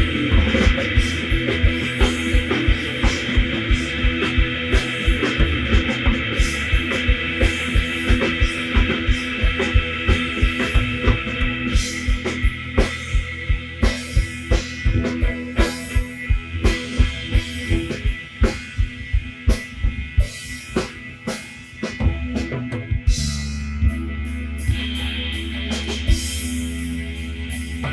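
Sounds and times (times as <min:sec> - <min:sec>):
drum-kit beat: 0:00.0 - 0:27.9.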